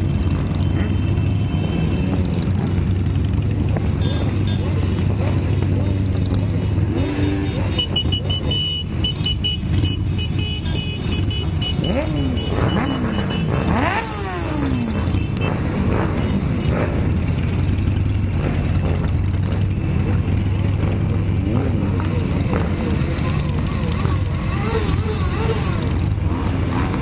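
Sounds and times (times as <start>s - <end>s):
motorcycle engines rumbling: 0.0s - 27.0s
motorcycles revving: 0.0s - 27.0s.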